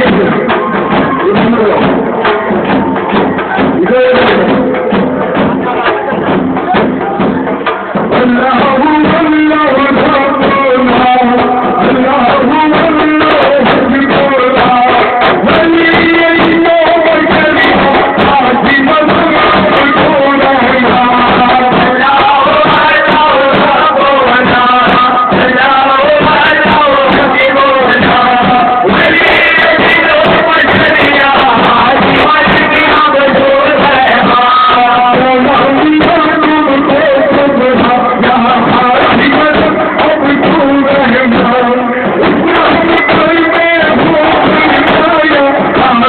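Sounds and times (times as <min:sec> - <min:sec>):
devotional chanting into microphone: 0:00.0 - 0:02.0, 0:08.1 - 0:46.0
drums beating: 0:00.0 - 0:46.0.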